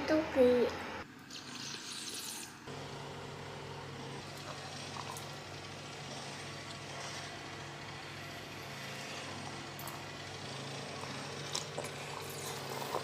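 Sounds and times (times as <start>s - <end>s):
low machine hum: 2.5s - 13.0s.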